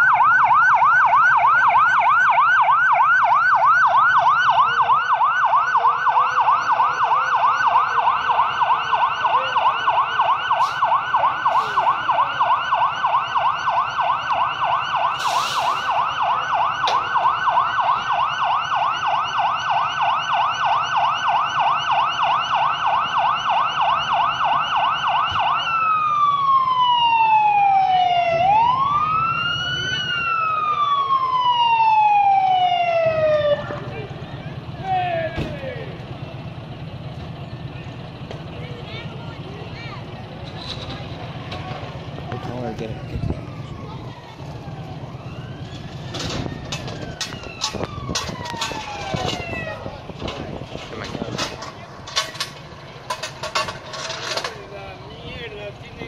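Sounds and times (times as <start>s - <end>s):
electronic siren: 0.0s - 33.8s, 42.4s - 54.5s.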